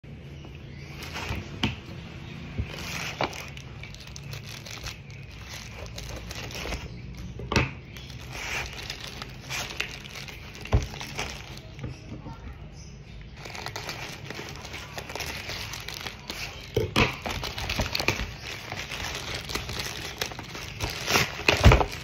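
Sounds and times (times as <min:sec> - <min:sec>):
packaging crinkling and tearing: 0:02.5 - 0:11.8, 0:13.4 - 0:22.0.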